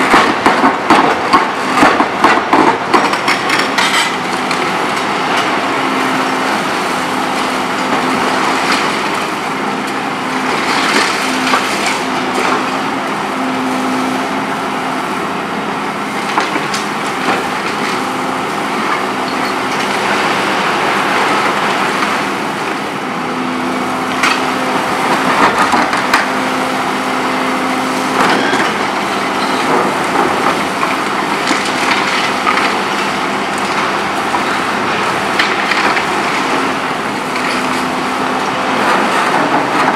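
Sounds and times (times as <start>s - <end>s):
excavator running under load: 0.0s - 39.9s.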